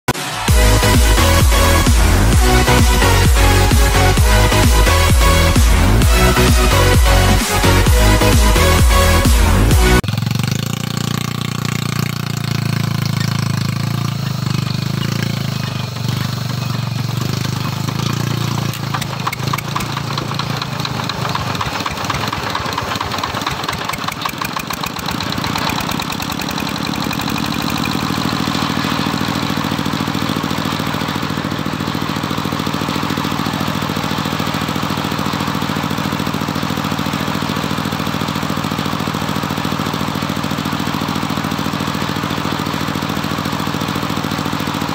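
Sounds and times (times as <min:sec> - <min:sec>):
saw blade humming: 0:00.1 - 0:37.3
engine clattering rapidly: 0:00.1 - 0:44.9
sawmill engine running: 0:00.1 - 0:44.9.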